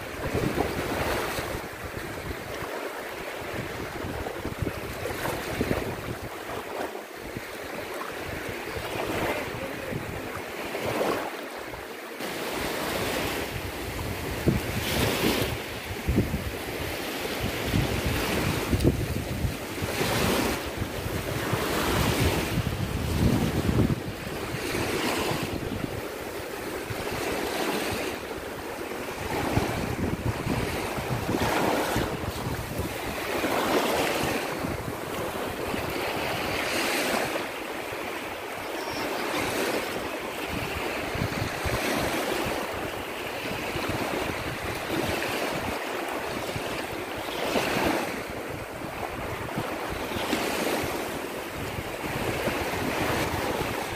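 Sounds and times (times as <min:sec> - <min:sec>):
small waves on sandy shore: 0:00.0 - 0:53.9
wind rumbling on microphone: 0:00.0 - 0:53.9.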